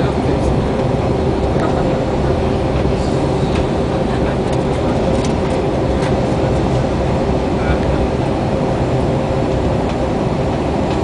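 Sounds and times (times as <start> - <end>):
airliner cabin roar: 0.0 - 11.0.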